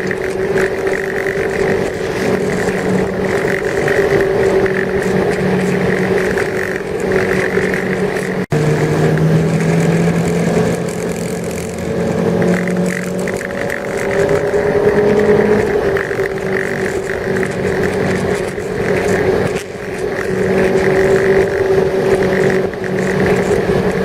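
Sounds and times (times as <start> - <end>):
motorboat engine running: 0.0 - 24.0.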